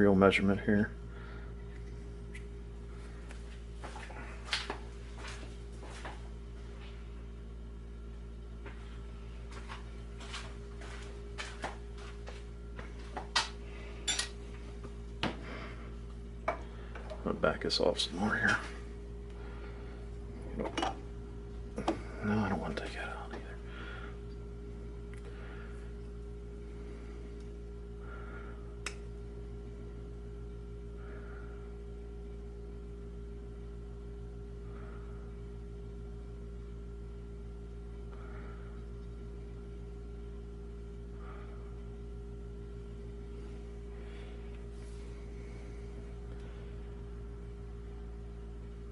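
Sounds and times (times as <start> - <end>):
workshop low hum: 0.0 - 48.9.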